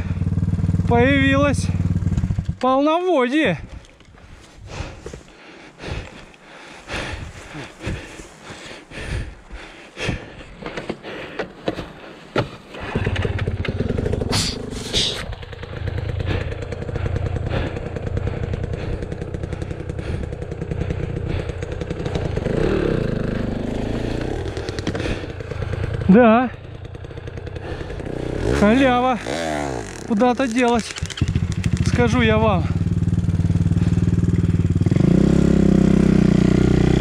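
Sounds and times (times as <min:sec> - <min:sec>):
dirt bike engine running: 0:00.0 - 0:11.4, 0:12.4 - 0:37.0.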